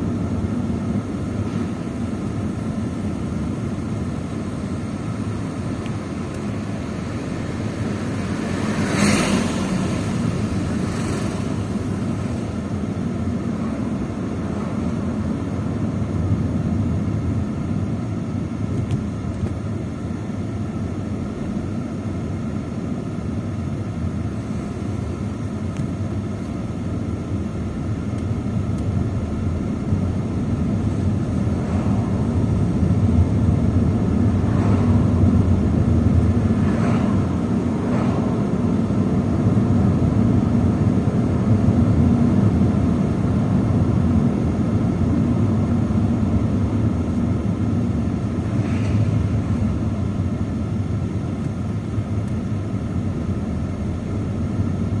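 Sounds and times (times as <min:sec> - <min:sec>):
low rumble with hum: 0:00.0 - 0:55.0.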